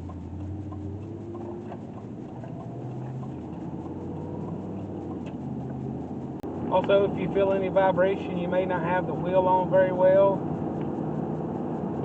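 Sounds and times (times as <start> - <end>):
truck engine hum from inside: 0.0 - 12.0.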